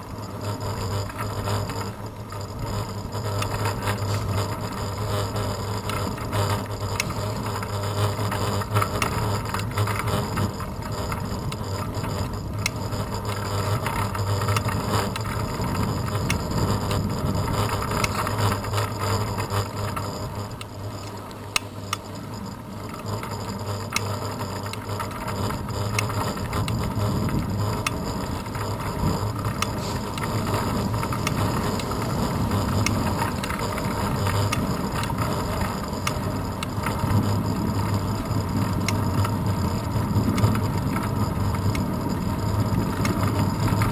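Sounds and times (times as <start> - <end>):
bicycle tyre rumble on asphalt: 0.0 - 43.9
bike rattles and clicks: 0.0 - 43.9
wind: 0.0 - 43.9.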